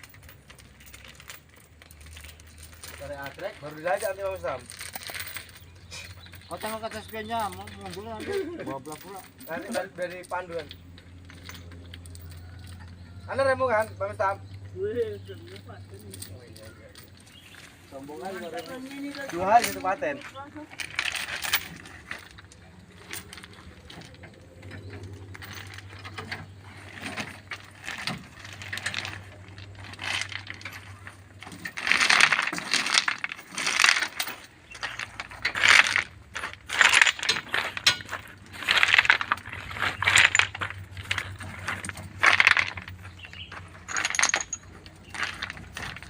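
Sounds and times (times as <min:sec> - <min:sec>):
rattling clinking strokes: 0:00.0 - 0:46.0.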